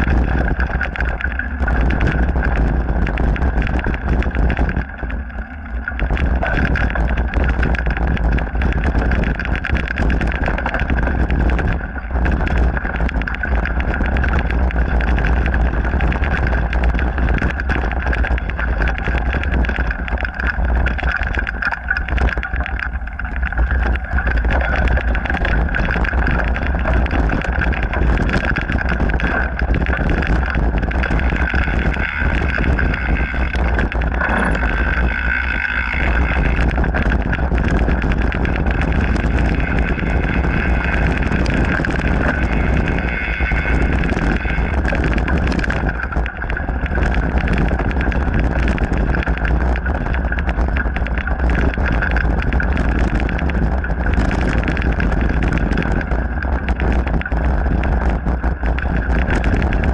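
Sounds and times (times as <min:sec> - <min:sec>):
bike tyre noise: 0:00.0 - 0:59.9
wind rumble on microphone: 0:00.0 - 0:59.9.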